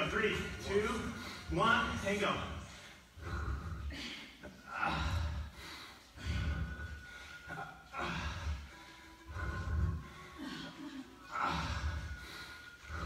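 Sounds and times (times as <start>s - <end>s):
heavy rhythmic breathing: 0.0s - 13.0s.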